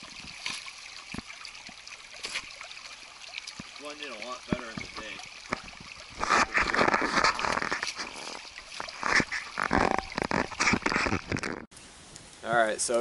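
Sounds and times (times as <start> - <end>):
stick splashing water: 0.0 - 11.6.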